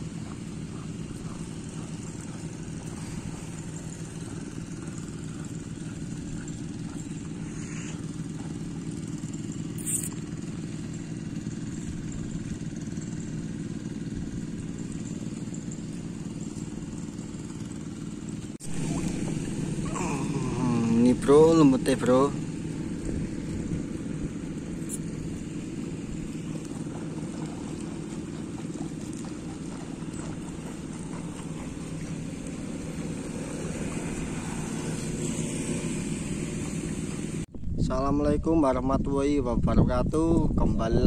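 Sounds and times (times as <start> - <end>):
small engine running: 0.0 - 37.5.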